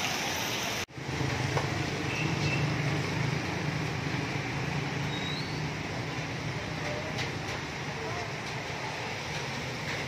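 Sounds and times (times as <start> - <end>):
road noise on wet road: 0.0 - 10.0
vehicle engines running: 0.9 - 10.0.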